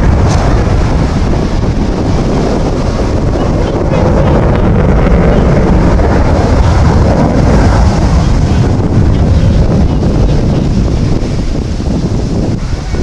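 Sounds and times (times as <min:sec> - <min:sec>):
fighter jet rumble: 0:00.0 - 0:13.0.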